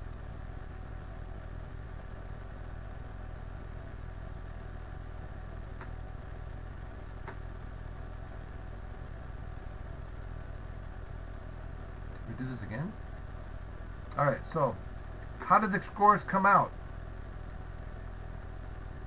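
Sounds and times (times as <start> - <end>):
low equipment hum: 0.0 - 19.0.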